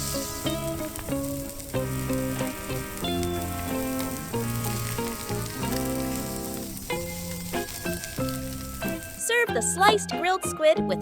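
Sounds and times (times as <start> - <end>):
squid sizzling on coals: 0.0 - 9.4.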